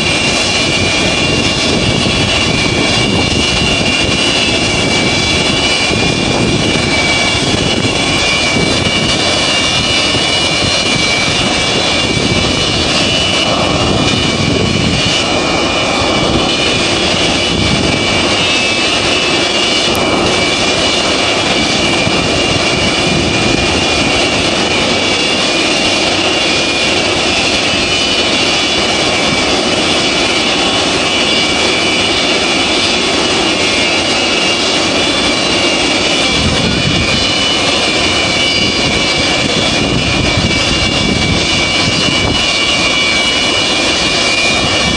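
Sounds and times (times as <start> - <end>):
jet engines idling with high whine: 0.0 - 44.9.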